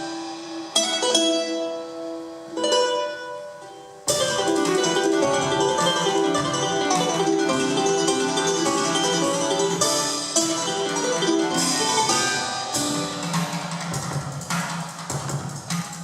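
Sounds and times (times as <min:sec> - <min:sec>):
plucked string duo playing folk tune: 0:00.0 - 0:14.0.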